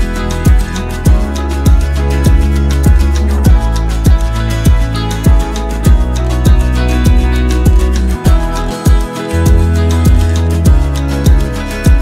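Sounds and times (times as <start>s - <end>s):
kick drum beat: 0.0s - 12.0s
light ticking cymbals: 0.0s - 12.0s
sustained bass notes: 0.0s - 12.0s.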